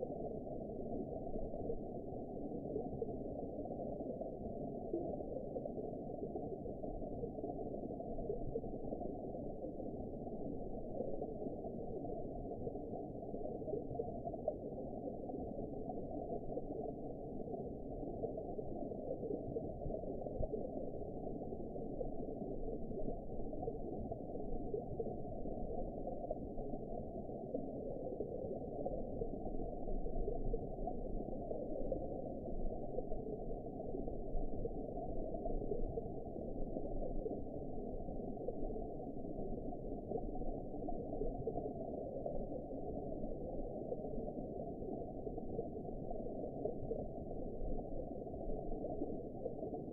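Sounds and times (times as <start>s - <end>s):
faint bubbling and crackle: 0.0s - 49.9s
muffled underwater rush: 0.0s - 49.9s.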